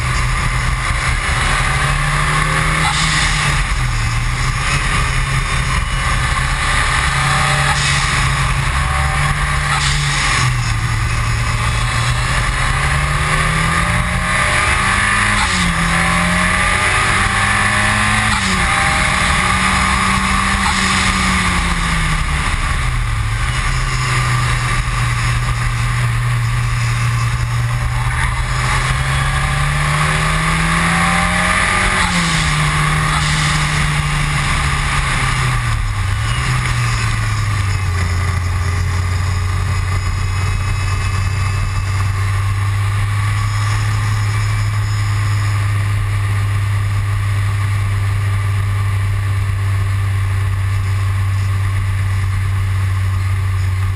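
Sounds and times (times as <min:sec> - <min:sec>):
car engine accelerating: 0:00.0 - 0:53.9
road and wind noise: 0:00.0 - 0:53.9.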